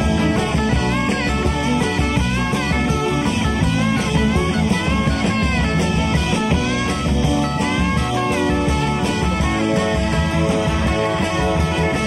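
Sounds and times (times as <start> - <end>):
electric lead guitar bending notes: 0.0 - 12.0
rock band playing: 0.0 - 12.0.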